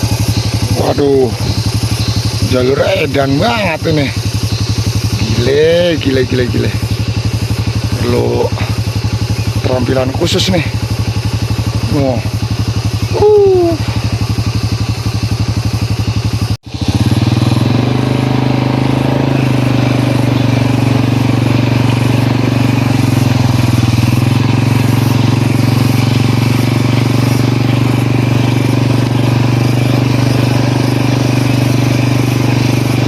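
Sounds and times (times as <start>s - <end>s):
motorcycle engine under load: 0.0s - 33.0s.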